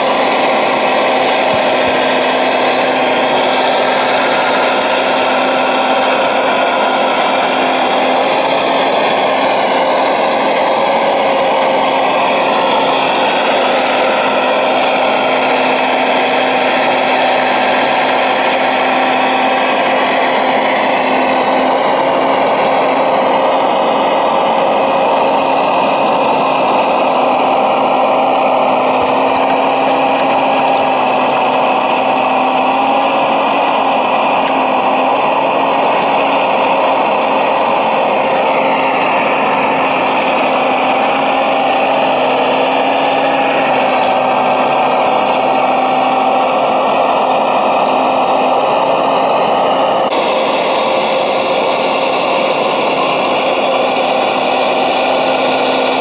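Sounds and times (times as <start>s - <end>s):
model excavator mechanical whine: 0.0s - 56.0s.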